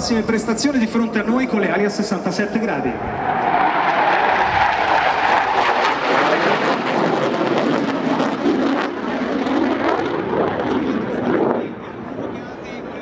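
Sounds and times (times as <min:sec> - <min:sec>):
loud crackling jet noise: 0:00.0 - 0:13.0.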